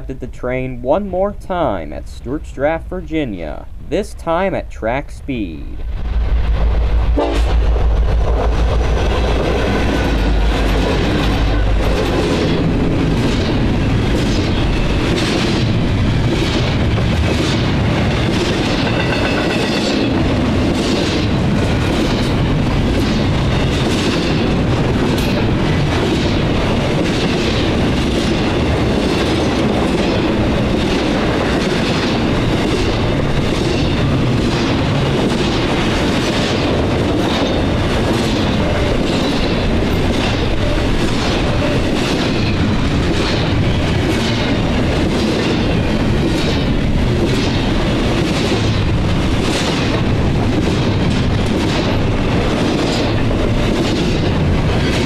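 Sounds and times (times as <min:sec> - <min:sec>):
train wheels rushing on rail: 0:05.5 - 0:55.0
train wheels clickety-clack: 0:06.5 - 0:55.0.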